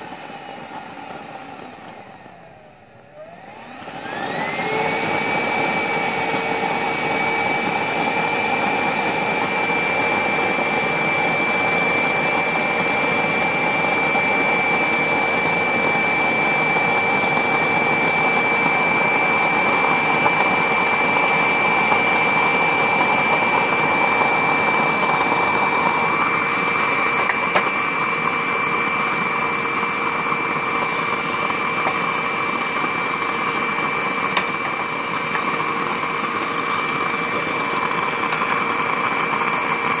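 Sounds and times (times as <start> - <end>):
electric air blower whining: 0.0 - 40.0.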